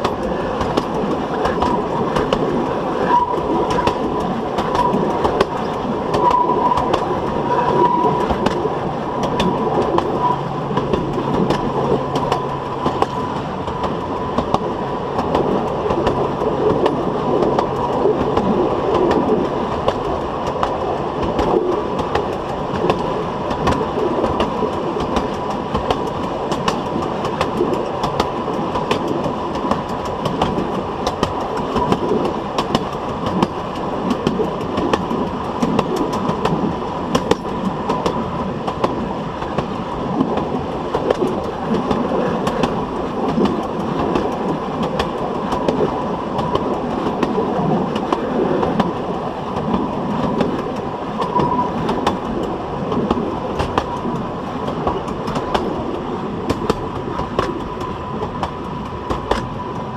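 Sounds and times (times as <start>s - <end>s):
train wheels rumbling on track: 0.0s - 59.9s
wheels clicking over rail joints: 0.0s - 59.9s.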